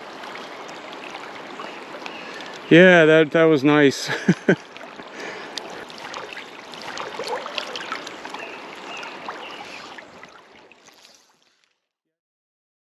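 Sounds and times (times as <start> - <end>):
creek water rippling: 0.0 - 11.8.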